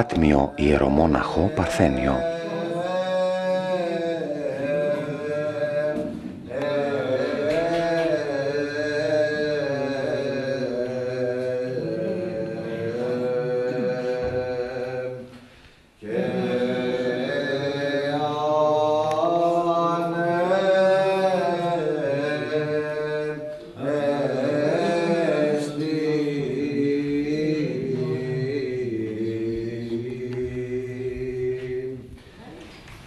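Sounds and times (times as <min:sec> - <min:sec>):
solo chant vocal: 0:00.0 - 0:32.4.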